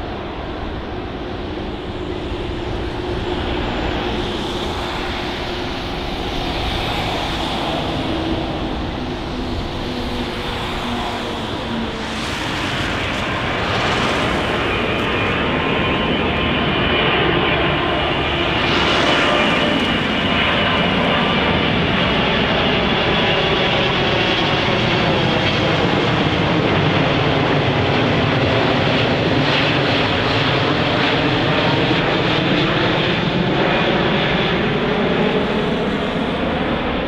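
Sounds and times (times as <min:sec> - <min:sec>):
jet engines roaring overhead: 0:00.0 - 0:37.0.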